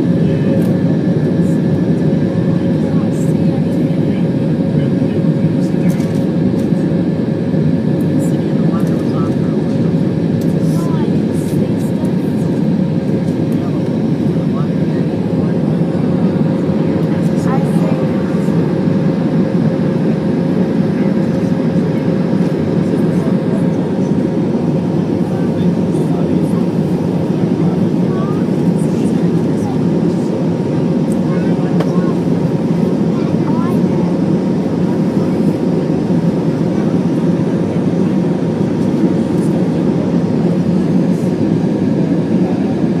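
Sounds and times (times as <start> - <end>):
jet engine drone in cabin: 0.0 - 43.0.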